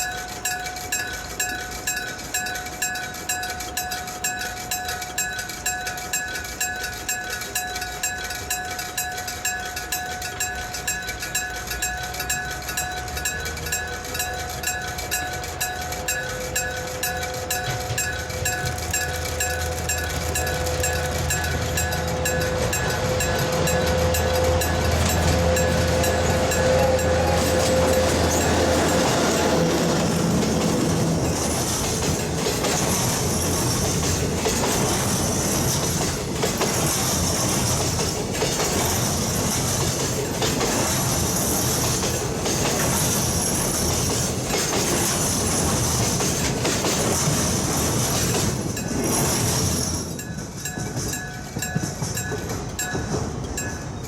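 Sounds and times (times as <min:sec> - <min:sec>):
diesel locomotive engine rumble: 0:00.0 - 0:54.0
level crossing warning bell: 0:00.0 - 0:54.0.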